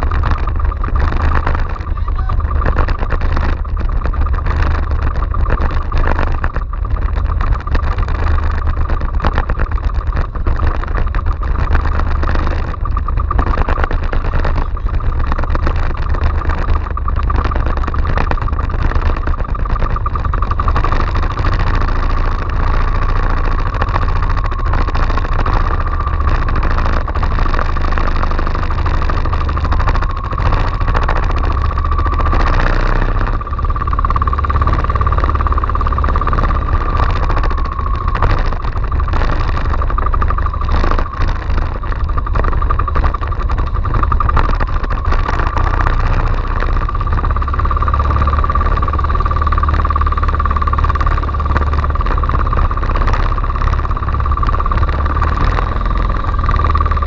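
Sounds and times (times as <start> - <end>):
boat engine pulsing: 0.0 - 57.0.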